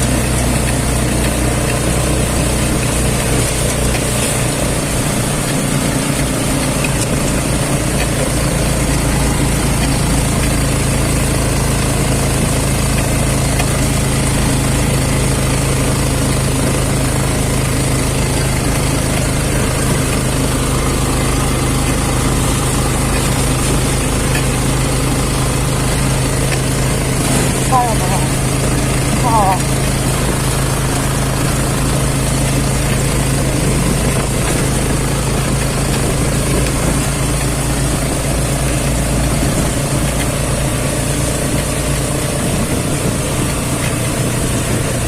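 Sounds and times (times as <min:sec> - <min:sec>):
road noise: 0:00.0 - 0:45.0
vehicle engine running: 0:00.0 - 0:45.0.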